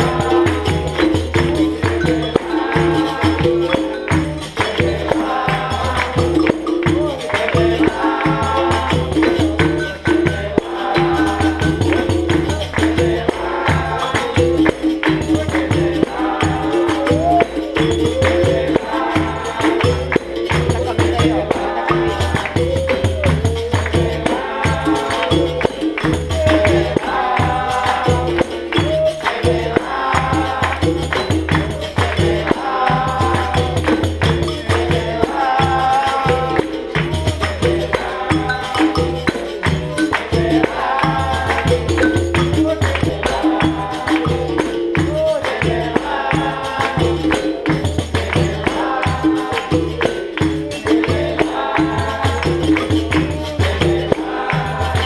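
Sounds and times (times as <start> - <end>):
group singing a chorus: 0.0 - 55.0
hand drum: 0.0 - 55.0
tambourines: 0.0 - 55.0.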